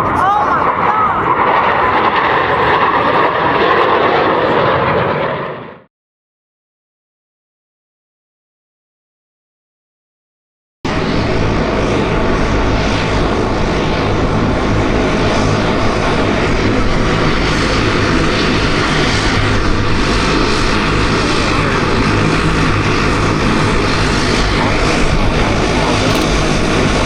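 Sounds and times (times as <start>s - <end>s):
propeller aircraft engines droning: 0.0s - 5.8s, 10.9s - 27.0s.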